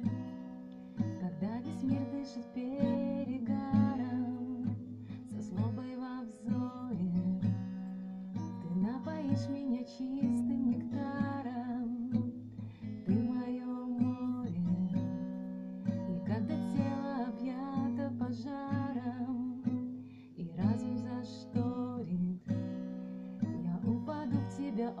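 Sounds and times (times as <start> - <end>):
woman singing: 1.0 - 7.8, 8.4 - 22.8, 23.4 - 25.0.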